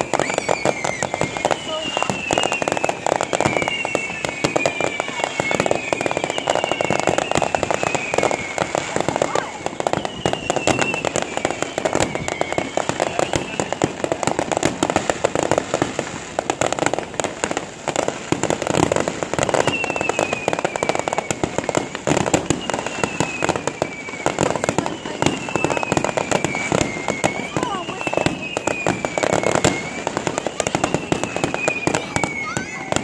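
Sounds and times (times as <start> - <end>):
firework whistles: 0.0 - 33.0
fireworks bursting: 0.0 - 33.0.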